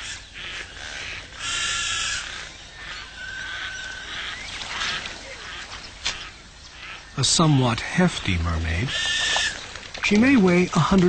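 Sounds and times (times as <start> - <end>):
animal calls: 0.0 - 11.0.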